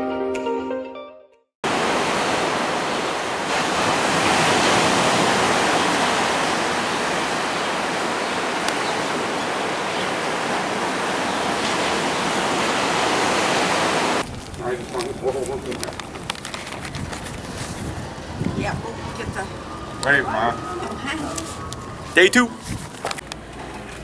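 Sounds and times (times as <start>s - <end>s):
ocean waves breaking: 1.6s - 24.0s.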